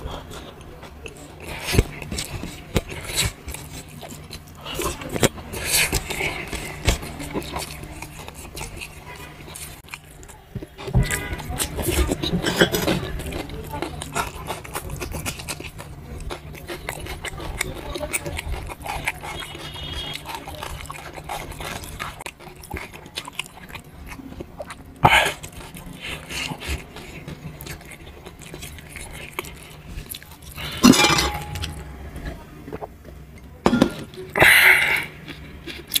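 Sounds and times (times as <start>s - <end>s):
chewing and mouth noises: 0.0s - 33.5s, 34.1s - 36.0s.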